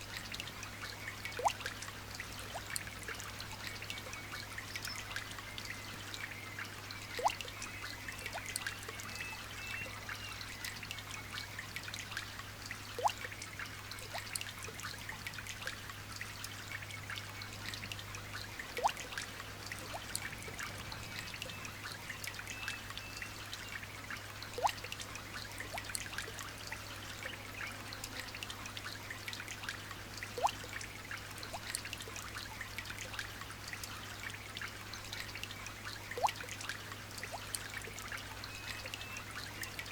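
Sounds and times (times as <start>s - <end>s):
light rain dripping: 0.0s - 39.9s.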